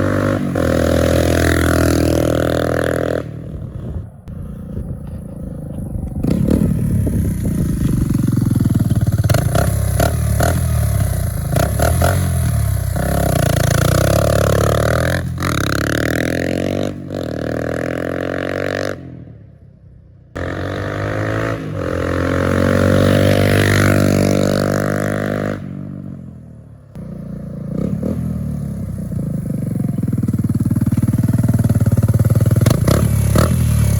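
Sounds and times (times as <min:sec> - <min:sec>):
motorcycle engine revving: 0:00.0 - 0:19.5, 0:20.3 - 0:33.9.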